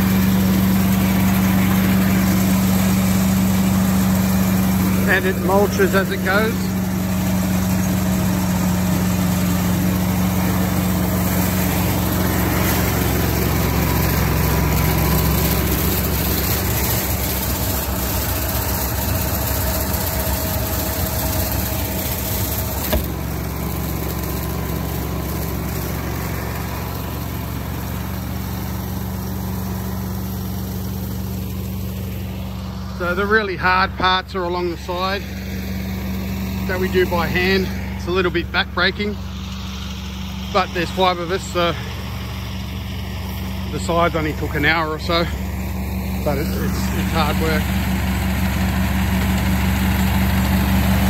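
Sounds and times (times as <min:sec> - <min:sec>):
combine harvester engine drone: 0:00.0 - 0:51.0.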